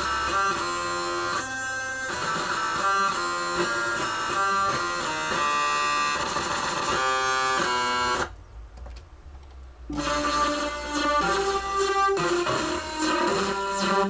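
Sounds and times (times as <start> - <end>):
electronic keyboard notes and chords: 0.0 - 8.4, 9.9 - 14.0.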